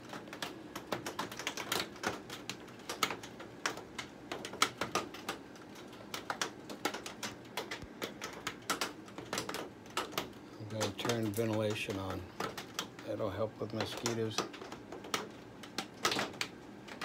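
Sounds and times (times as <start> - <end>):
rain on greenhouse roof: 0.0 - 17.0.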